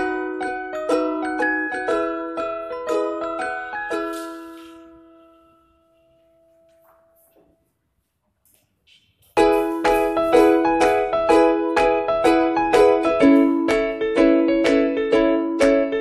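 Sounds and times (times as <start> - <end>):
keyboard music with piano notes: 0.0 - 7.3, 9.4 - 16.0.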